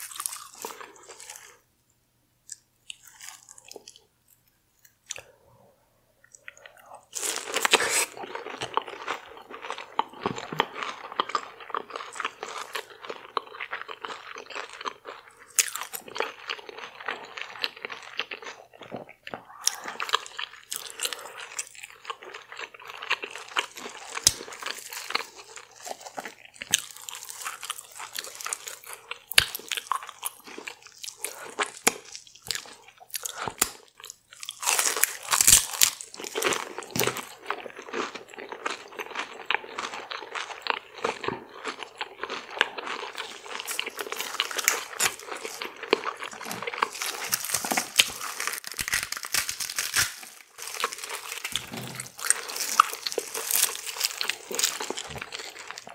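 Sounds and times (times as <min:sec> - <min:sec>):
crunchy biting and chewing: 0:00.0 - 0:01.6, 0:06.3 - 0:55.9.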